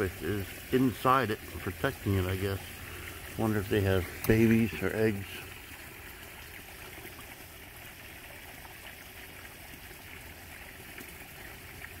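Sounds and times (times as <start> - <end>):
trickle of running water: 0.0 - 12.0.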